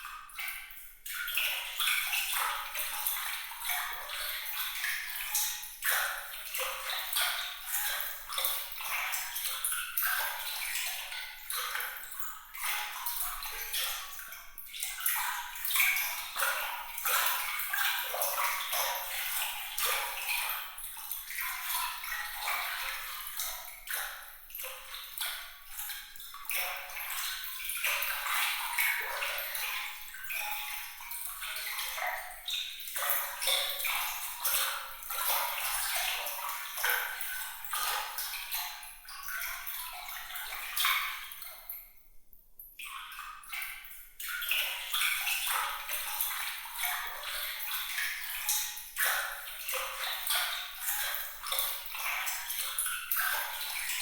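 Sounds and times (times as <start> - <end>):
water trickling and splashing: 0.0 - 42.0, 42.7 - 54.0.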